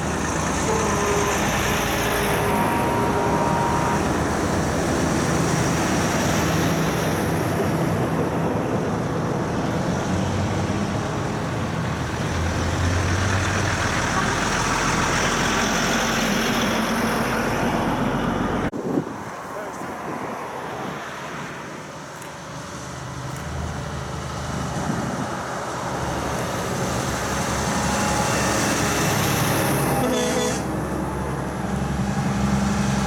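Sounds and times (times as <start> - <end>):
diesel trucks driving past: 0.0 - 33.0.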